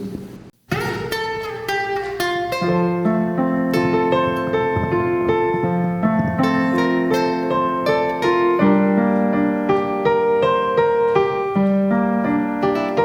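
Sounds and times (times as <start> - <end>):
slow piano chords: 0.7 - 13.0.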